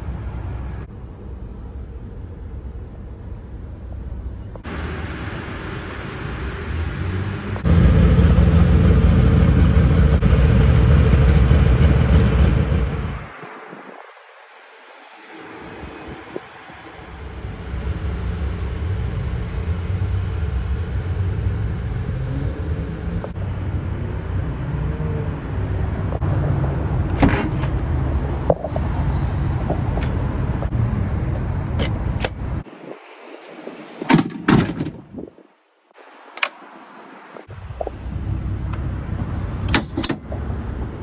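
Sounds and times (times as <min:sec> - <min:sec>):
engine rumbling: 0:00.0 - 0:13.5, 0:15.8 - 0:33.0, 0:33.6 - 0:41.0.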